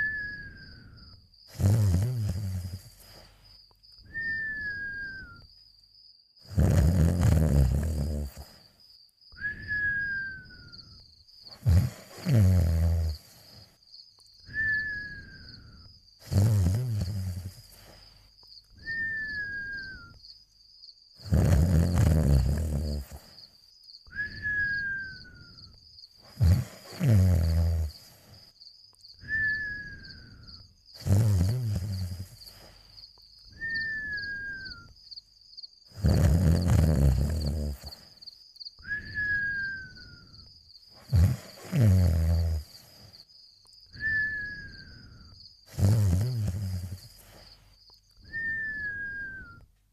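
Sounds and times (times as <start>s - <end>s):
cartoon snoring with whistle: 0.0s - 5.4s, 6.4s - 8.7s, 9.3s - 13.8s, 14.4s - 20.2s, 21.2s - 23.4s, 24.1s - 28.6s, 29.2s - 35.0s, 35.9s - 38.2s, 38.8s - 43.2s, 43.9s - 49.7s.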